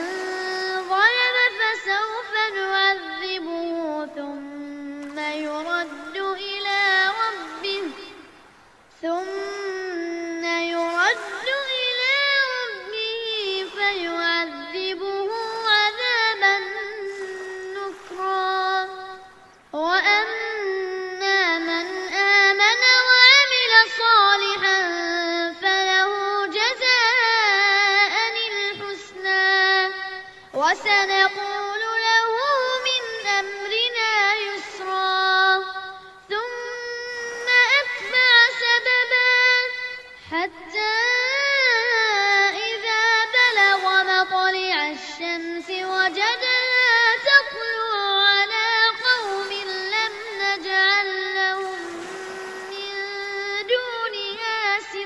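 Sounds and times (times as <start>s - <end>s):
boy chanting melodic recitation: 0.0s - 55.0s.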